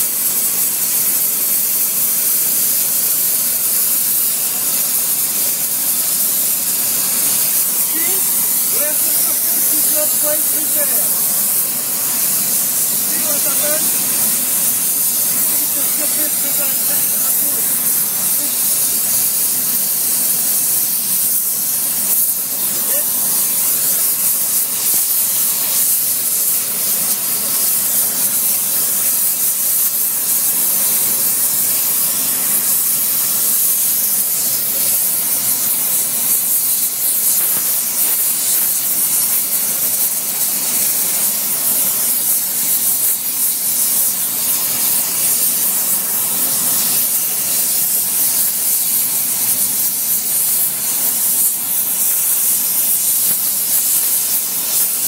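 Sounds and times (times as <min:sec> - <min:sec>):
gas torch flame hissing: 0:00.0 - 0:55.0.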